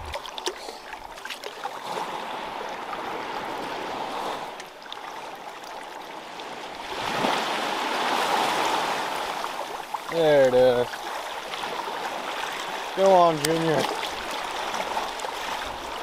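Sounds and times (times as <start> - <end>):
rush of water: 0.0 - 16.0
water sloshing and splashing: 0.0 - 16.0.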